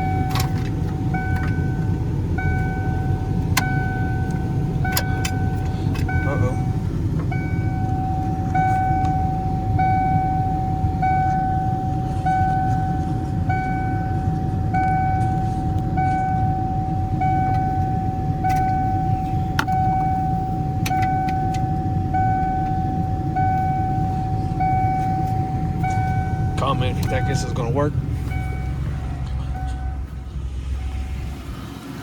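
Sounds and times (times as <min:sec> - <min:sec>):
dashboard warning chime: 0:00.0 - 0:31.3
car engine idling: 0:00.0 - 0:32.0.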